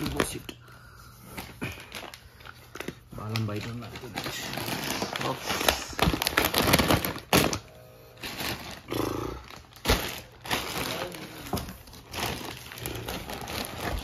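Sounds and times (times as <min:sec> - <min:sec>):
plastic packets crinkling: 0:00.0 - 0:00.6, 0:01.2 - 0:14.0.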